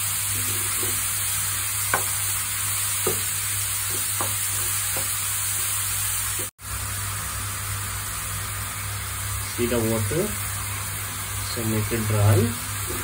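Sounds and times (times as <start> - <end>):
mushrooms sizzling in oil: 0.0 - 13.0.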